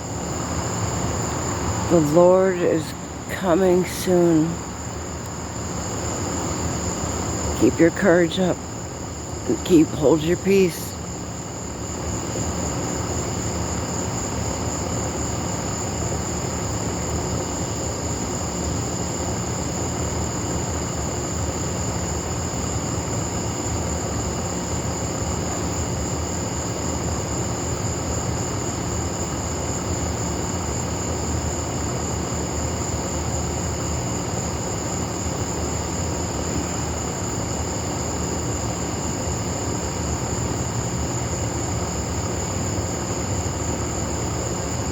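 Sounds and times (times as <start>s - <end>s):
night insect chorus: 0.0s - 44.9s.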